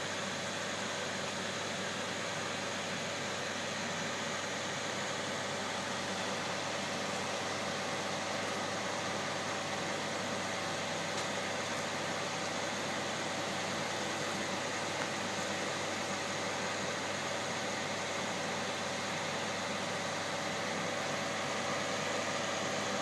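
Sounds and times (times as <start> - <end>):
machine hum with hiss: 0.0 - 23.0.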